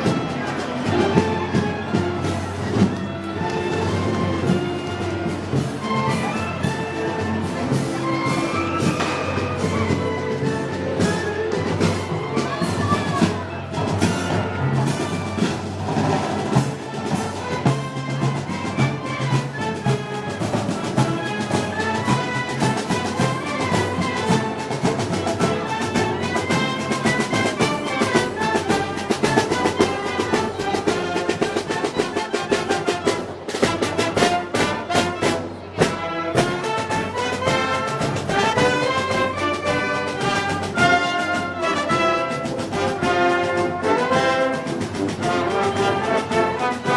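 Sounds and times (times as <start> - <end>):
brass band with drums: 0.0 - 46.9.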